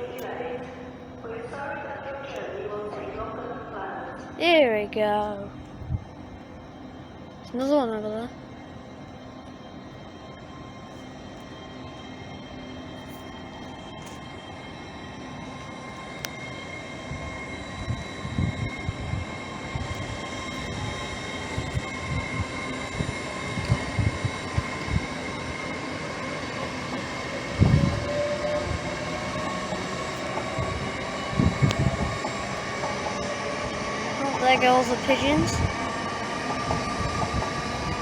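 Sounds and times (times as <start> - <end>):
train running through station: 0.0 - 38.0.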